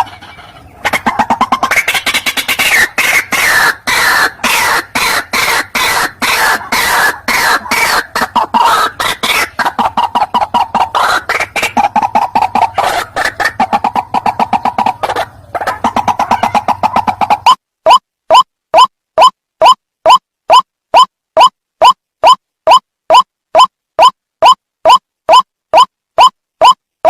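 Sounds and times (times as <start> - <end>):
bird calling harsh clucking notes: 0.0 - 26.8.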